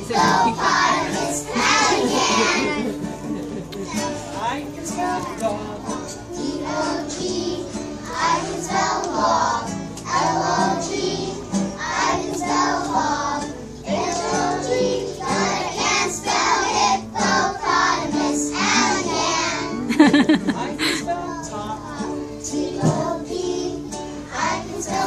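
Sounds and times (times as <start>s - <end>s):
acoustic guitar: 0.0s - 25.0s
young children singing: 0.0s - 25.0s.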